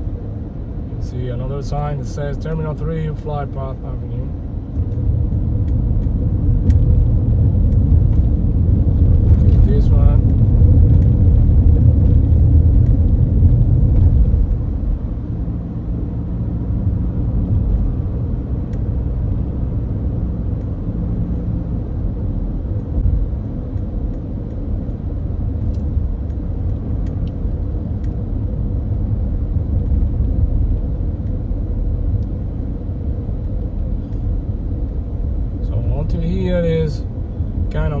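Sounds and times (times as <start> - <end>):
car road rumble from inside: 0.0 - 38.0.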